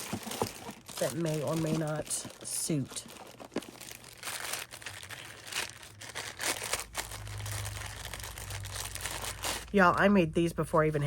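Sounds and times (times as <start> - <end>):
paper and packaging rustling: 0.0 - 9.9.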